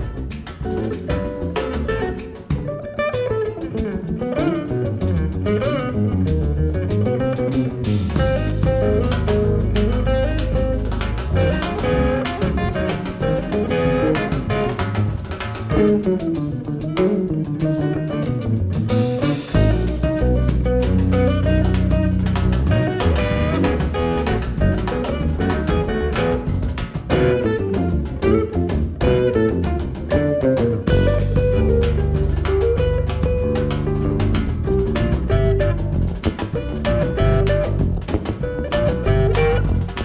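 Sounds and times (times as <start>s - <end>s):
guitar bending melodic lines: 0.0s - 40.0s
jazz band playing: 0.0s - 40.0s.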